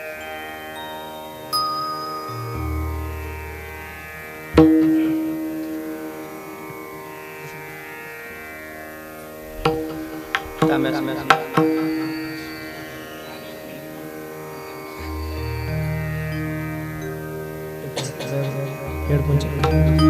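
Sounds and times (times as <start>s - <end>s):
plucked string instrument: 0.0s - 20.0s
steady drone: 0.0s - 20.0s.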